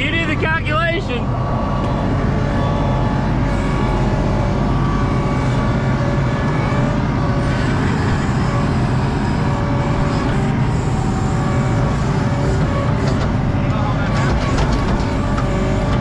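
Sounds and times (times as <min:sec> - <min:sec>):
diesel engine running: 0:00.0 - 0:16.0
thin steady whine: 0:00.0 - 0:16.0.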